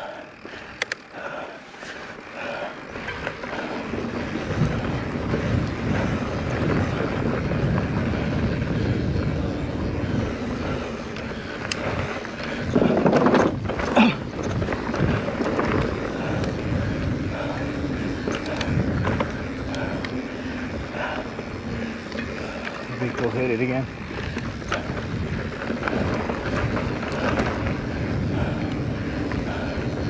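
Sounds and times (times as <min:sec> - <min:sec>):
bike tyres on trail: 0:00.0 - 0:30.0
wind rushing over microphone: 0:02.6 - 0:30.0.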